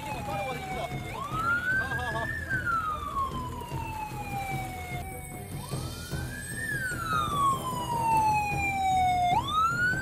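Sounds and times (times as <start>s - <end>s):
background music: 0.0s - 10.0s
emergency siren wailing: 0.0s - 10.0s.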